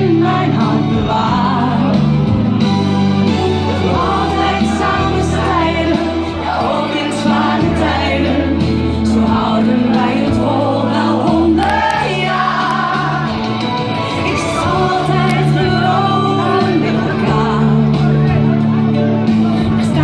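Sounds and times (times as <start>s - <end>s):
woman singing: 0.0s - 2.3s, 3.7s - 18.4s, 19.6s - 20.0s.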